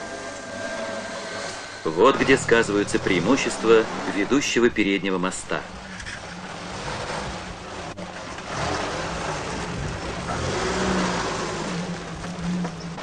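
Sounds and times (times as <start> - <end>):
off-road vehicle engine under load: 0.0 - 13.0.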